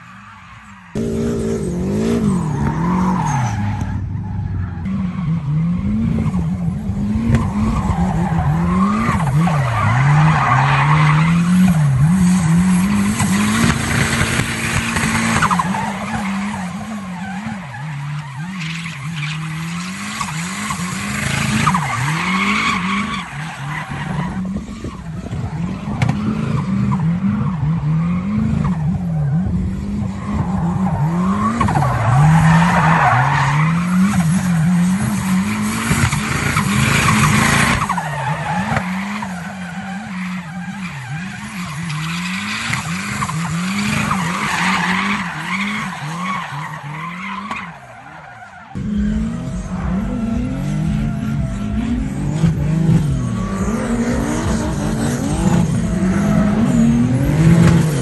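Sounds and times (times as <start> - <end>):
car engine revving: 0.9 - 58.0.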